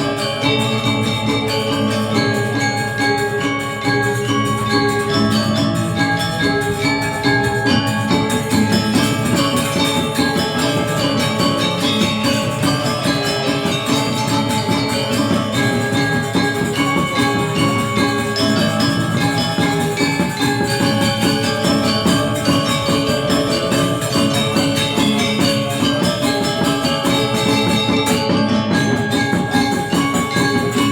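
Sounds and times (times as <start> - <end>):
gamelan metallophones playing: 0.0 - 30.9.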